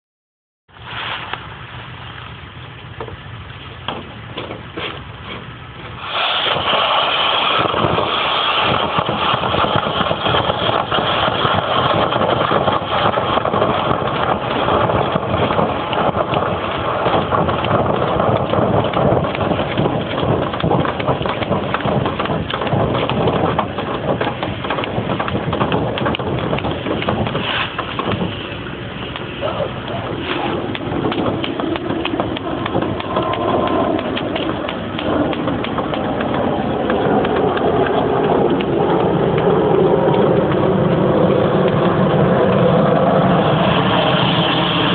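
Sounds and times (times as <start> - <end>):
low rumble: 0.7 - 44.9
dryer vent cleaning machine whooshing: 5.9 - 44.9.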